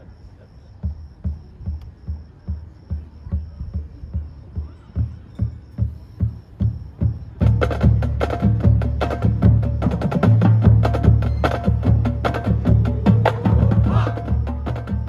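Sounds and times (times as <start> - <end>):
marching band playing: 1.2 - 15.0.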